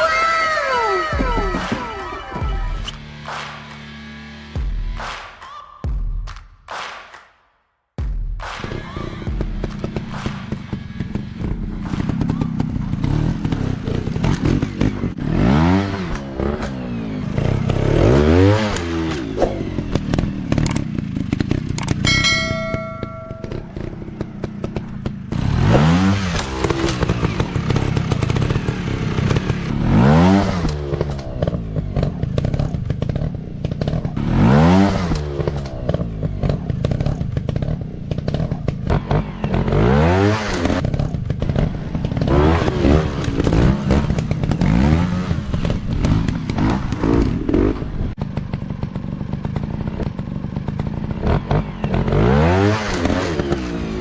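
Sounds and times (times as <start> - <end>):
dirt bike engines revving: 0.0 - 4.6, 8.6 - 54.0.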